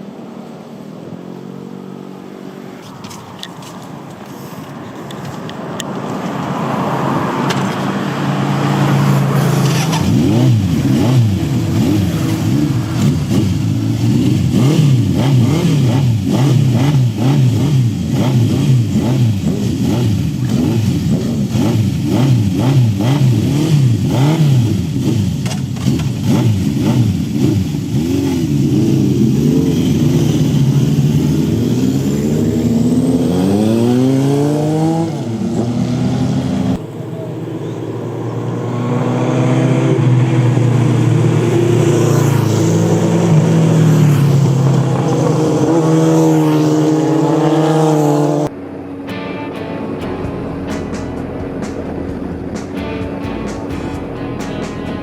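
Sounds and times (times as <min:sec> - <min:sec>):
motorcycle engine revving: 0:06.6 - 0:55.0.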